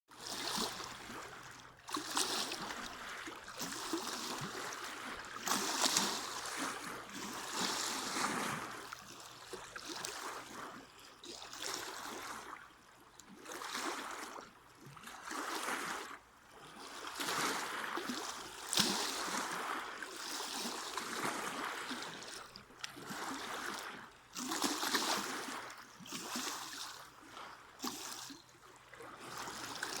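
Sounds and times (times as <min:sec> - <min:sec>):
water lapping against a boat: 0:00.1 - 0:30.0.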